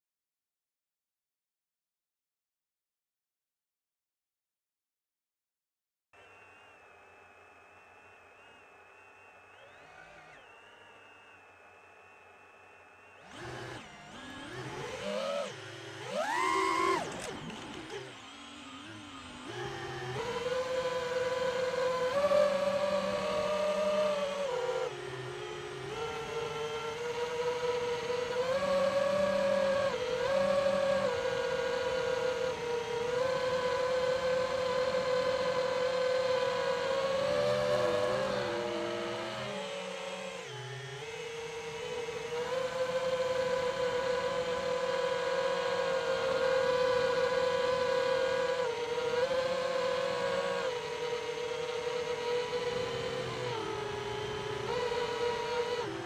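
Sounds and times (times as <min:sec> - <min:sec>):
drone propellers whining: 0:08.7 - 0:56.0.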